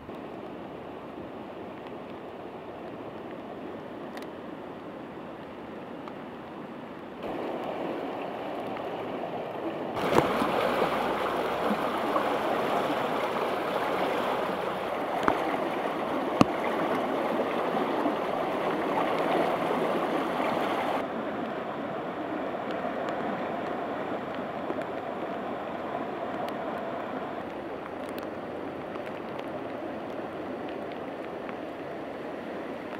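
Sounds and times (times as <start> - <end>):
floodwater rushing in creek: 0.0 - 32.9.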